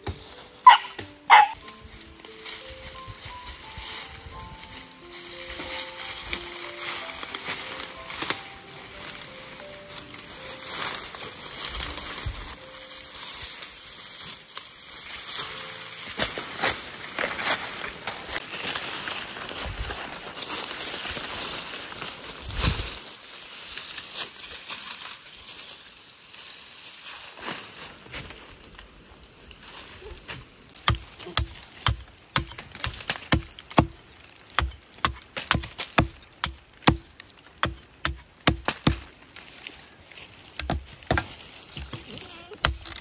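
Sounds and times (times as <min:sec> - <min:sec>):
rustling and crackling: 0:00.0 - 0:43.0.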